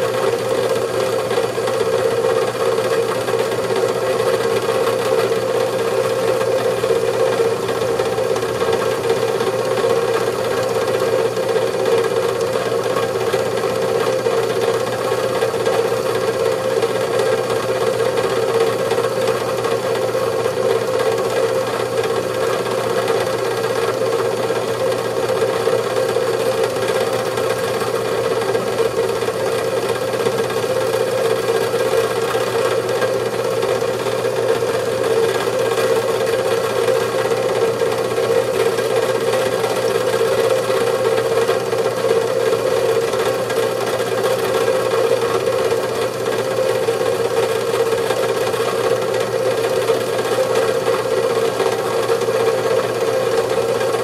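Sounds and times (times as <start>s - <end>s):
industrial mixer motor hum: 0.0s - 54.0s.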